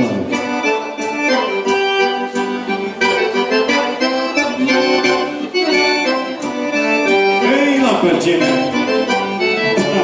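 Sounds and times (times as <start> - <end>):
accordion dance tune: 0.0 - 10.0
band accompaniment with steady beat: 0.0 - 10.0.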